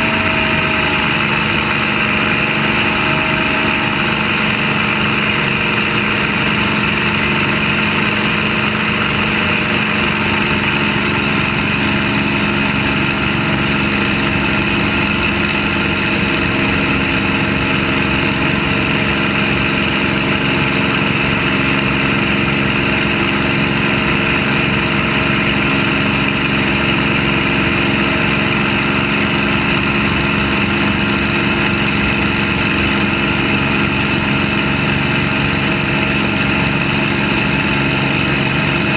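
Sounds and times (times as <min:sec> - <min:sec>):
aircraft engine running: 0:00.0 - 0:38.9.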